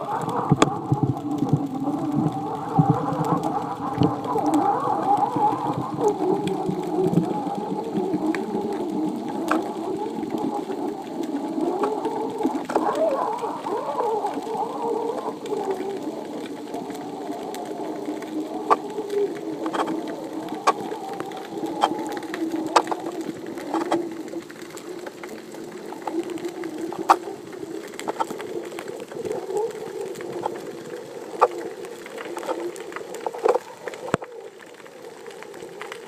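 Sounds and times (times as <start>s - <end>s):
underwater wavering hum: 0.0s - 36.0s.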